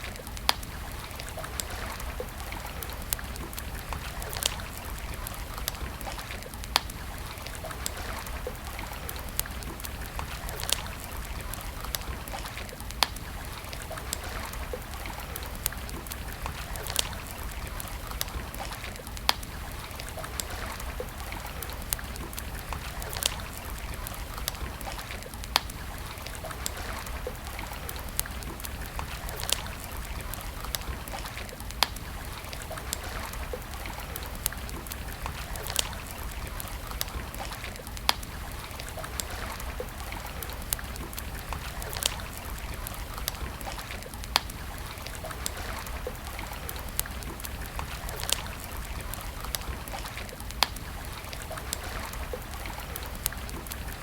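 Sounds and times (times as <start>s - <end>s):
wood campfire crackling: 0.0s - 54.0s.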